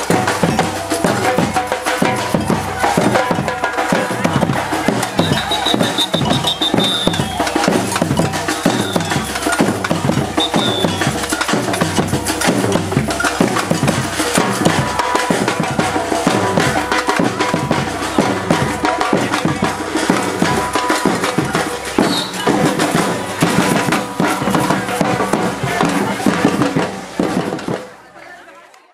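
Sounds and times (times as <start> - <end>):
percussion group drumming: 0.0 - 28.1.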